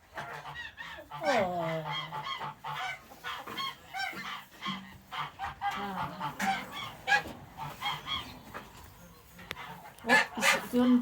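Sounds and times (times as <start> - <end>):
geese honking: 0.1 - 8.4, 9.5 - 11.0.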